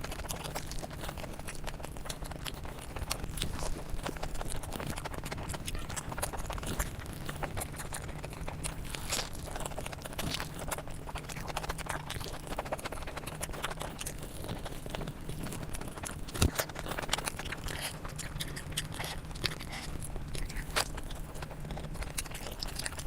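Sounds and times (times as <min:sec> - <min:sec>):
chewing with wet mouth clicks: 0:00.0 - 0:23.0.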